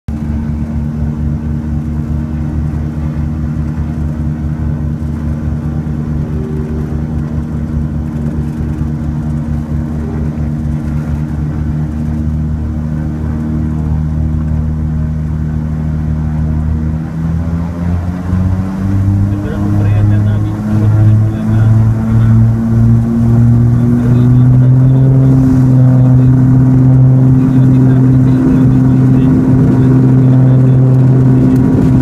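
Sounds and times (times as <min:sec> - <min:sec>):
propeller engines droning: 0:00.1 - 0:32.0.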